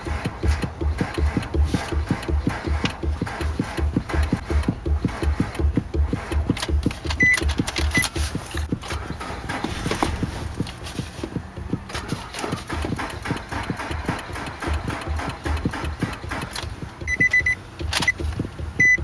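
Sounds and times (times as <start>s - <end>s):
car engine cranking: 0.0s - 19.0s.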